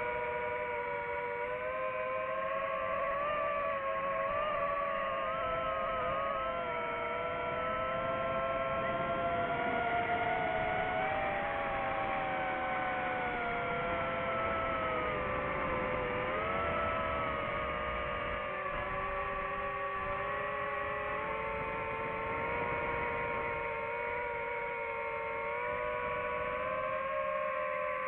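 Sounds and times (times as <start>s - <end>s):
drone propellers whining: 0.0s - 28.0s.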